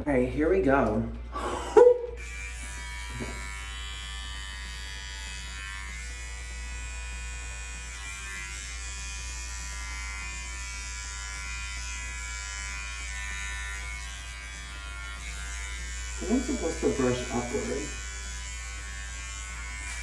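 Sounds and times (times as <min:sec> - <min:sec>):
electric hair clippers running: 0:00.8 - 0:20.0.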